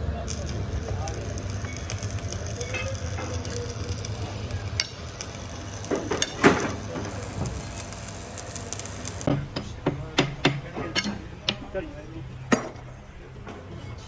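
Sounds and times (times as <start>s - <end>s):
steady hiss: 0.0s - 12.4s
metal parts clicking and knocking: 0.3s - 11.9s, 12.5s - 13.0s
metal clatter: 0.3s - 13.7s.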